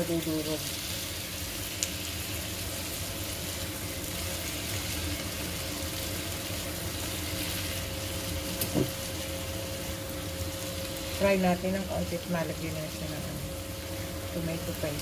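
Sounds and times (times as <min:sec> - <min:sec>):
meatballs sizzling in a frying pan: 0:00.0 - 0:15.0.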